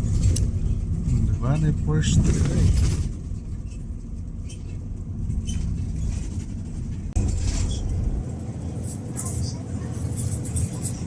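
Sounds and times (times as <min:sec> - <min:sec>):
road vehicle rumbling: 0:00.0 - 0:11.0.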